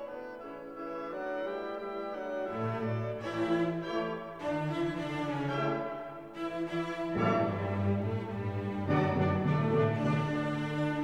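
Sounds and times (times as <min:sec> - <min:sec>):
orchestral bowed strings: 0:00.0 - 0:11.0.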